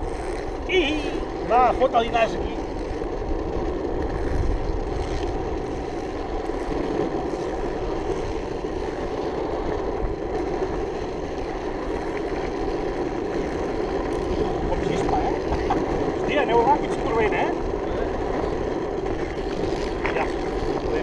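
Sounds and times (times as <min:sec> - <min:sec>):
wheels rolling over asphalt: 0:00.0 - 0:21.0
wind rumble on microphone: 0:00.0 - 0:21.0.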